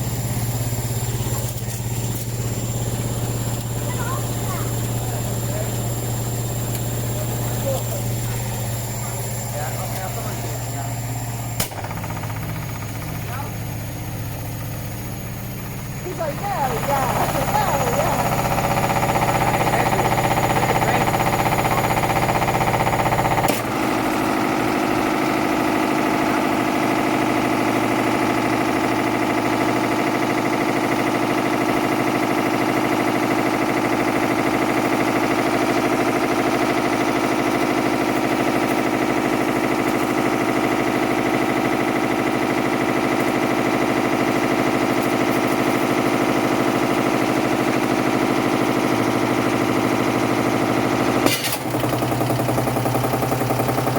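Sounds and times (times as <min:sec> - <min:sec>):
rattling and knocking in machine: 0:00.0 - 0:53.9
washing machine drum spinning: 0:00.0 - 0:53.9.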